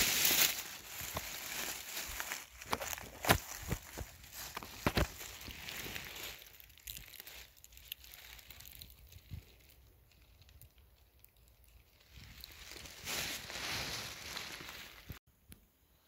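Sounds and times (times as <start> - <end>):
dry leaves rustling: 0.0 - 15.2.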